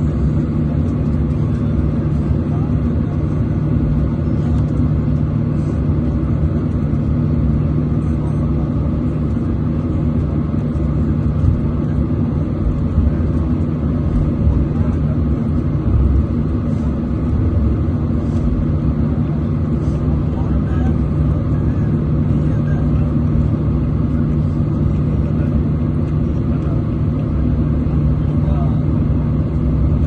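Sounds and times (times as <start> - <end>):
jet engines low rumble: 0.0 - 30.0.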